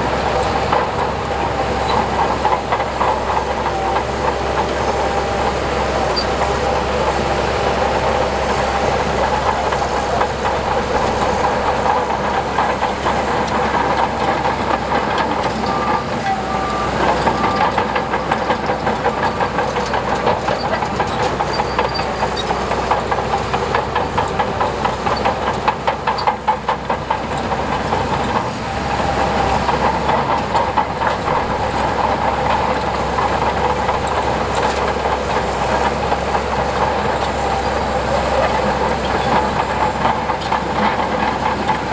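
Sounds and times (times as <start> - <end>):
diesel engine running: 0.0 - 41.9
steel crawler tracks clattering: 0.0 - 41.9.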